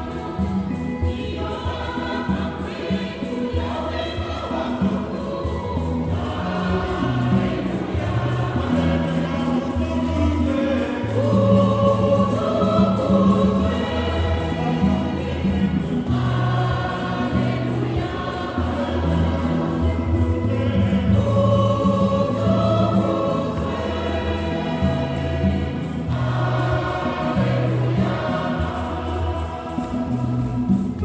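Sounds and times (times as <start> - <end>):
choir singing a hymn: 0.0 - 31.0.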